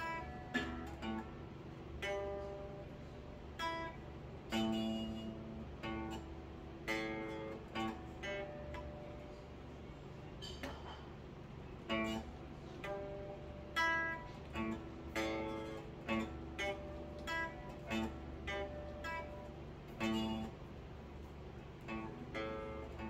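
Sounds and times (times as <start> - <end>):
electric guitar notes and chords: 0.0 - 9.6, 11.7 - 23.0
steady low hum: 0.0 - 23.0.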